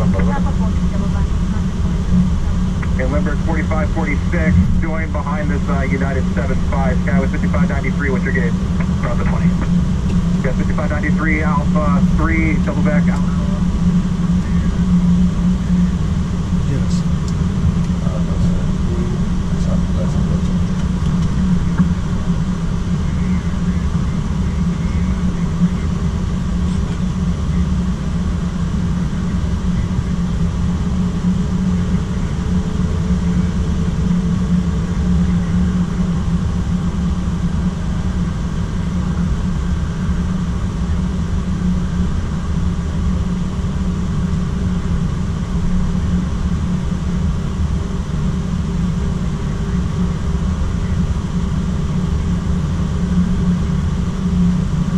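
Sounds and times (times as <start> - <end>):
airliner low rumble: 0.0 - 54.9
faint steady hum: 0.0 - 54.9.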